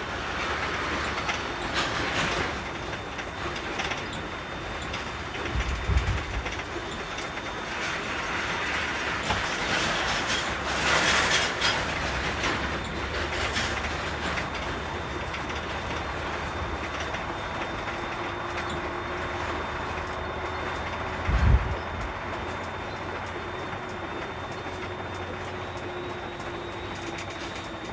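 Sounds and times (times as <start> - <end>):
truck engine and road rumble: 0.0 - 27.9.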